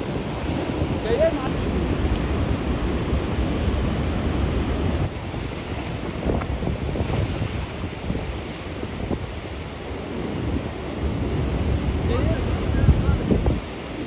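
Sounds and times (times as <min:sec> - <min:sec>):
rushing floodwater roar: 0:00.0 - 0:14.0
wind buffeting microphone: 0:00.0 - 0:14.0.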